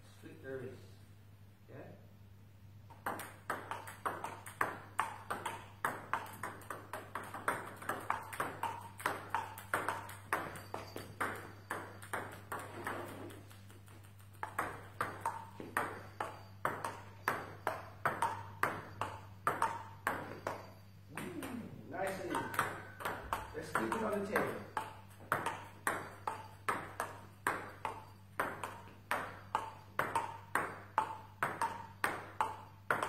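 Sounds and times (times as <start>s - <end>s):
faint low hum: 0.0s - 33.0s
table tennis balls clicking: 2.9s - 33.0s.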